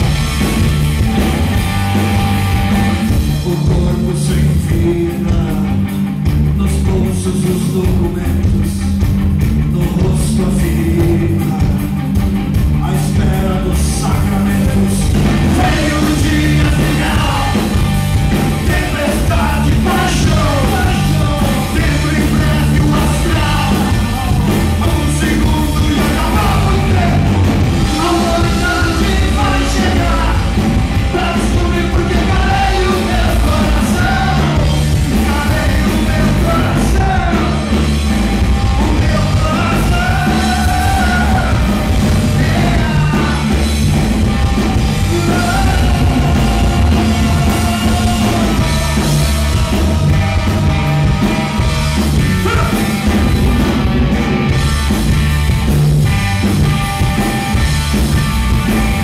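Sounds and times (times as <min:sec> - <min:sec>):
bass guitar: 0:00.0 - 0:59.0
drum kit: 0:00.0 - 0:59.0
electric guitar: 0:00.0 - 0:59.0
man singing: 0:03.0 - 0:09.0, 0:09.6 - 0:38.0, 0:38.6 - 0:44.0, 0:44.7 - 0:53.6.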